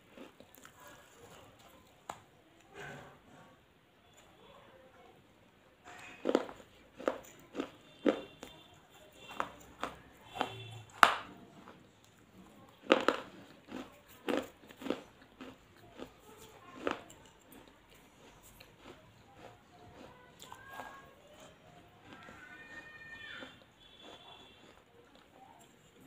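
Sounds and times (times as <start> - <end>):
person chewing crisp snack: 0.0 - 3.4, 5.8 - 26.0.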